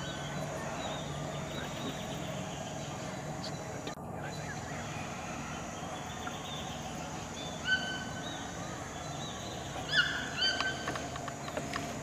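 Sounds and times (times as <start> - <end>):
distant howler monkeys roaring: 0.0 - 12.0.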